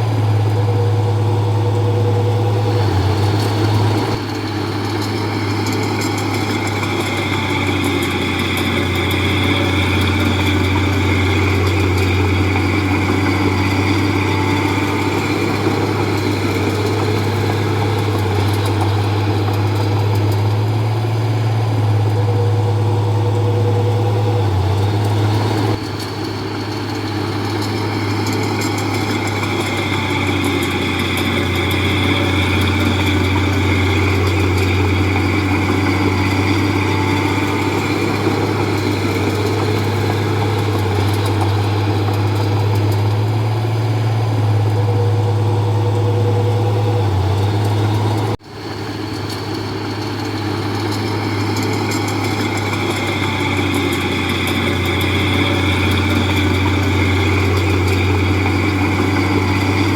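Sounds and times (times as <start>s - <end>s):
bulldozer diesel engine humming: 0.0s - 59.9s.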